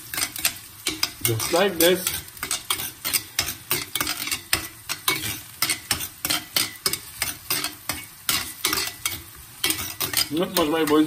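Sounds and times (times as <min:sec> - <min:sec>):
light sizzle: 0:00.0 - 0:11.0
utensil scraping pan: 0:00.0 - 0:11.0.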